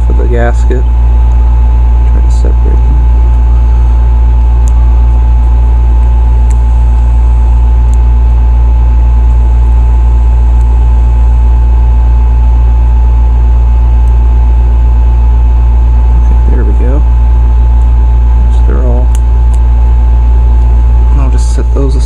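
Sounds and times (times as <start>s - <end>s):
faint high whine: 0.0s - 22.0s
loud low hum: 0.0s - 22.0s.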